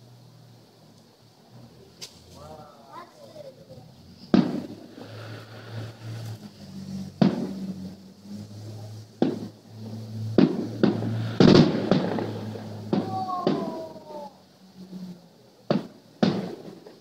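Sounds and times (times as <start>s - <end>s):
steady low hum: 0.0s - 17.0s
fireworks booming: 2.0s - 14.9s, 15.6s - 17.0s.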